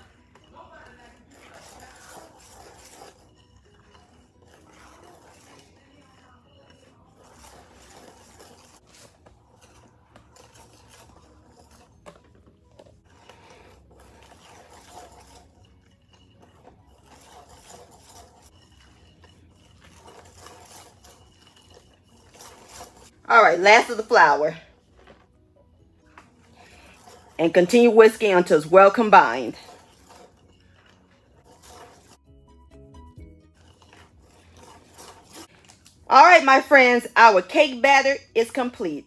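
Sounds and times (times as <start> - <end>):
whisk scraping glass bowl: 0.0 - 39.0.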